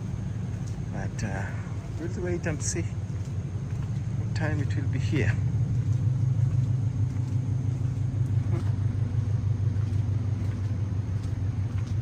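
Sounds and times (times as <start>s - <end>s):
faint hum: 0.0s - 12.0s
loud low rumble: 0.0s - 12.0s.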